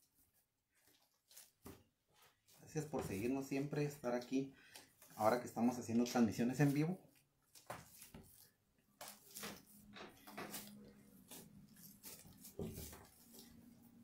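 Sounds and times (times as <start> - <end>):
hands kneading dough: 0.0 - 14.0.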